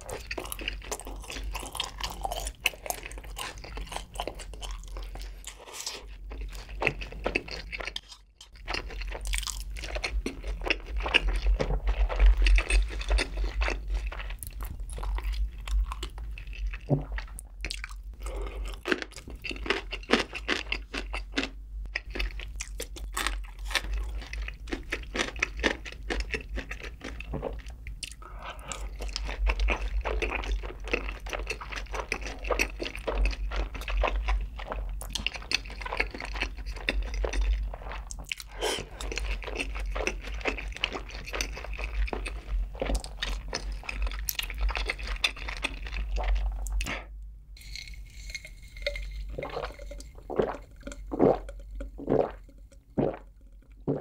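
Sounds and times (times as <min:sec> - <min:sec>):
crunchy wet chewing: 0:00.0 - 0:54.0.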